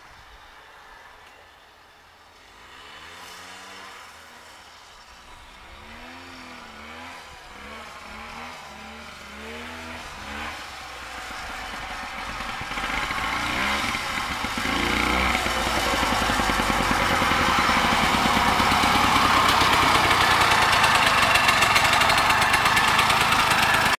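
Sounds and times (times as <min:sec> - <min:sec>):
snowmobile two-stroke engine: 0:02.2 - 0:24.0.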